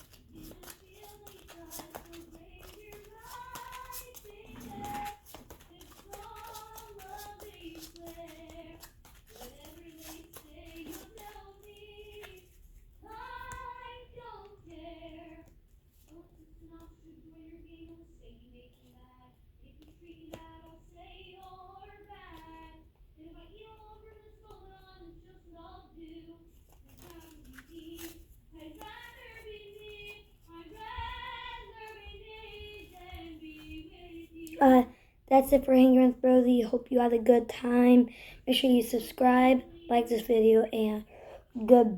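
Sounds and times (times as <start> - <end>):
child singing quietly: 0.0 - 41.9.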